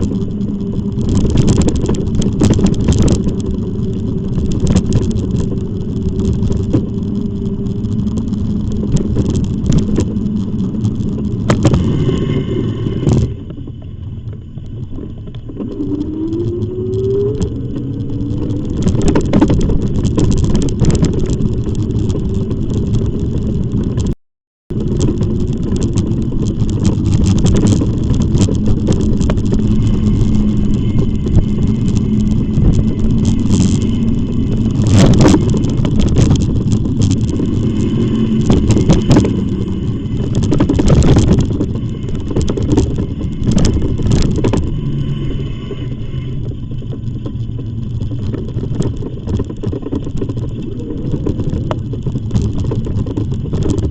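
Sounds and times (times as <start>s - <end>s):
steady low hum: 0.0s - 23.8s, 24.7s - 53.9s
wind buffeting microphone: 0.0s - 53.9s.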